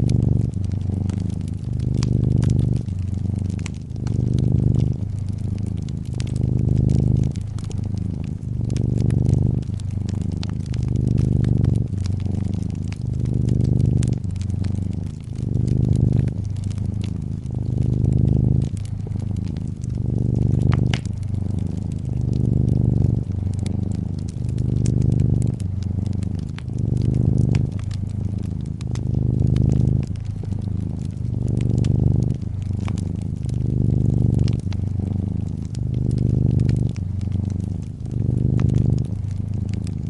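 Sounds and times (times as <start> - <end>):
cat purring: 0.0 - 40.0
wood fire crackling: 0.0 - 40.0.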